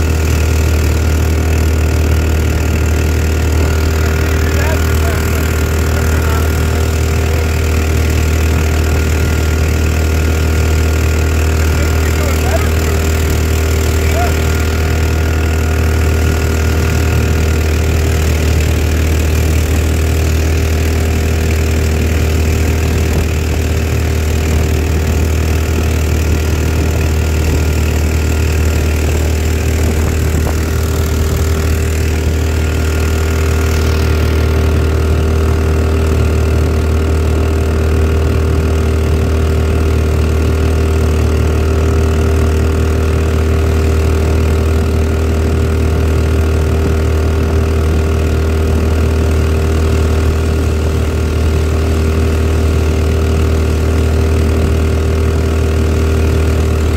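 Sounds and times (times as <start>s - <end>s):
boat engine running steadily: 0.0s - 56.9s.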